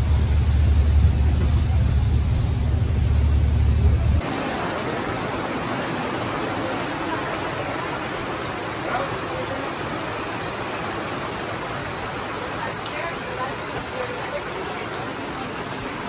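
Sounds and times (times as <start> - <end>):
boat engine droning: 0.0 - 15.6
rain pouring over sea: 0.0 - 16.0.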